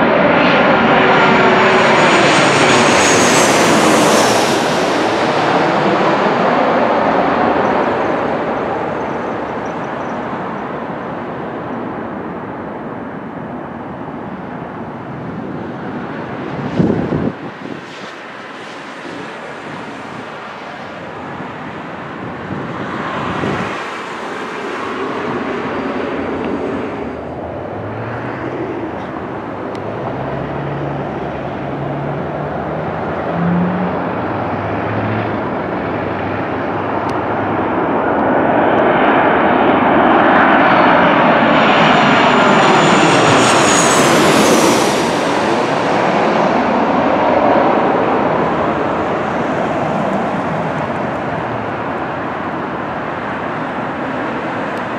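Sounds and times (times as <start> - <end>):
jet plane passing overhead: 0.0 - 54.9.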